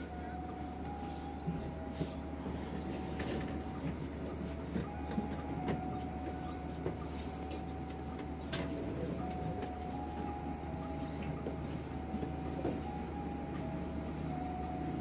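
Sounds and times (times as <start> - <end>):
thin constant whine: 0.0 - 15.0
train humming: 0.0 - 15.0.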